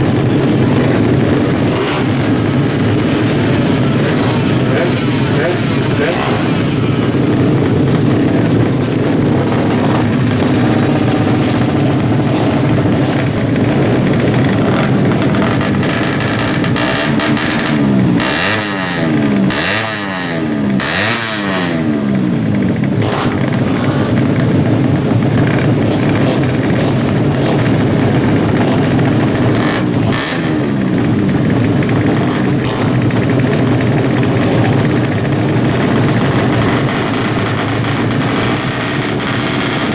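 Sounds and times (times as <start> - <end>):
motorcycle accelerating through gears: 0.0 - 39.9
motorcycle engines revving loudly: 0.0 - 39.9.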